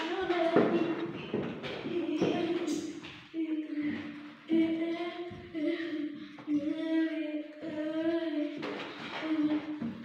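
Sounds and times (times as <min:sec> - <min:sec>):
girl singing: 0:00.0 - 0:10.0.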